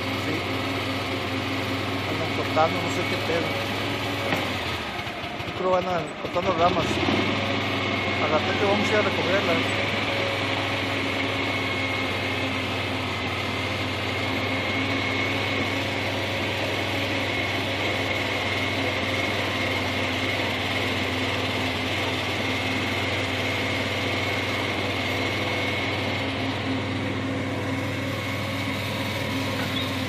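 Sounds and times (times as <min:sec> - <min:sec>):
motor running with high whine: 0:00.0 - 0:30.0.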